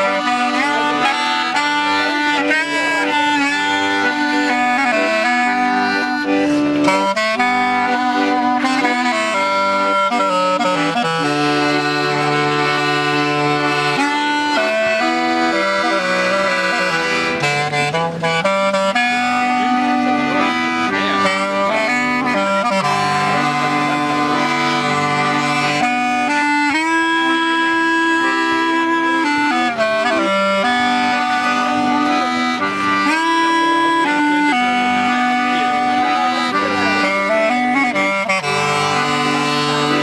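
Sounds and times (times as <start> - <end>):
piano accordion: 0.0 - 40.0
wooden clarinet: 0.0 - 40.0.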